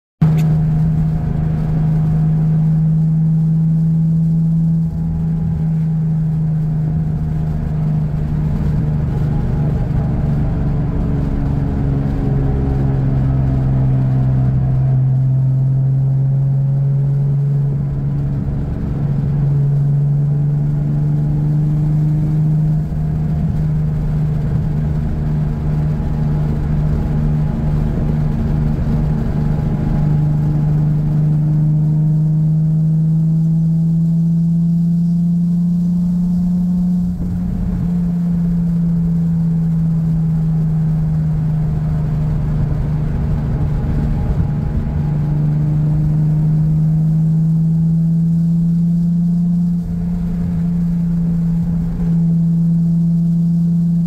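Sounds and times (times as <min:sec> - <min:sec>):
car exhaust drone: 0:00.2 - 0:54.0.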